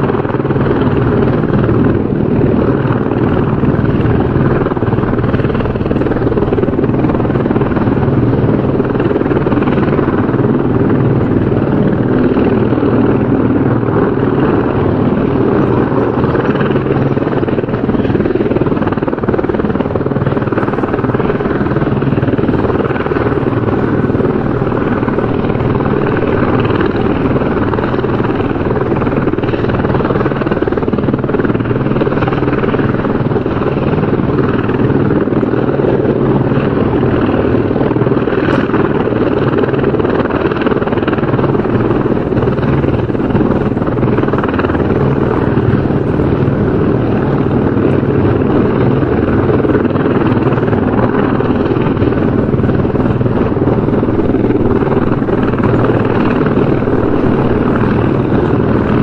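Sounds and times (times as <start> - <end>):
helicopter rotor throbbing: 0.0 - 59.0.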